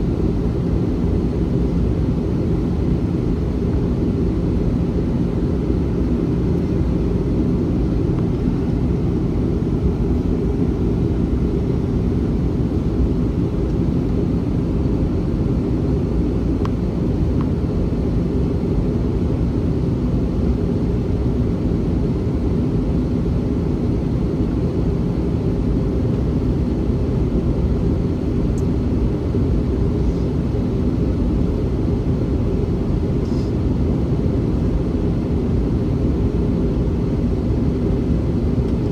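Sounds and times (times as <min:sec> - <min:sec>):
airplane cabin roar: 0:00.0 - 0:38.9
faint steady hum: 0:00.0 - 0:38.9.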